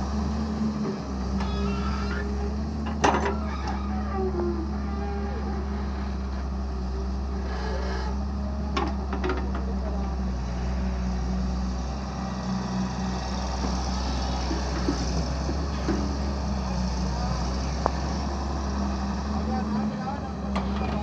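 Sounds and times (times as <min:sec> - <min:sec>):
excavator diesel engine droning: 0:00.0 - 0:21.0.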